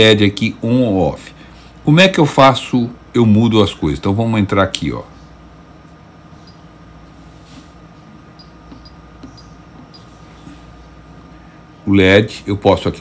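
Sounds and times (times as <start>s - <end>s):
filament dryer humming: 0.0s - 13.0s.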